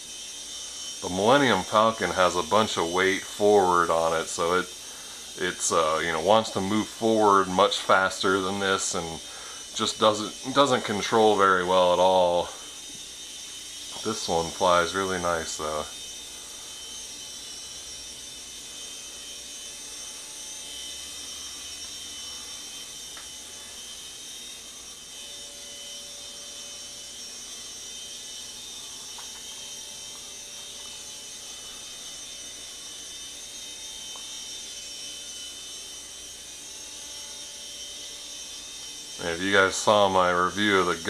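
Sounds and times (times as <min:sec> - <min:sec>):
toy helicopter high-pitched whir: 0:00.0 - 0:41.0.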